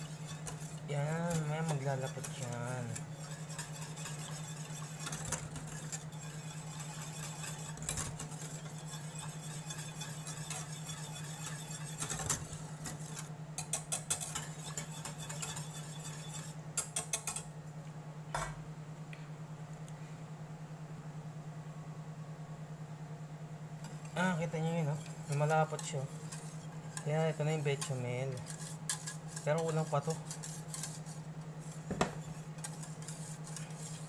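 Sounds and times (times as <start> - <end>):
spatula scraping saucepan: 0.0 - 17.4, 23.8 - 34.0
steady low hum: 0.0 - 34.0.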